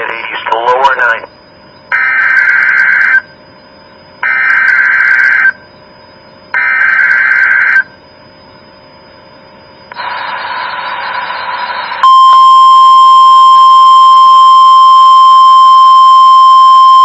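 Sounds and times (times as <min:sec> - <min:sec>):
warbling data tone bursts: 0:00.0 - 0:17.0.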